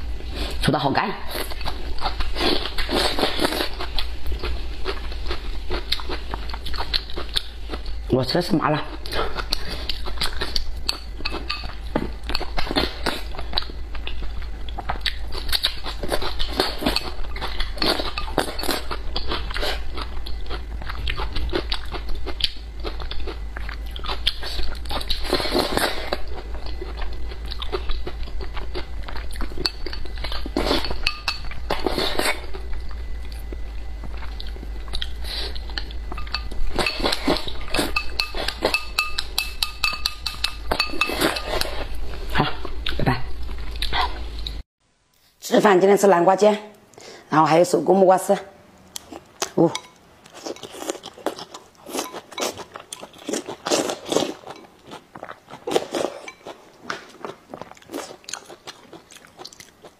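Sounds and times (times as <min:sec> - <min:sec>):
wet chewing and crunching: 0:01.3 - 0:44.6, 0:48.9 - 0:59.9.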